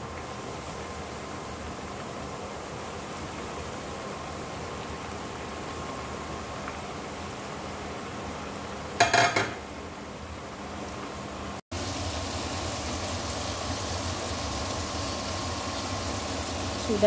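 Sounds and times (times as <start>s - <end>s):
chicken deep-frying in oil: 0.0s - 17.0s
soup bubbling at the boil: 0.0s - 17.0s.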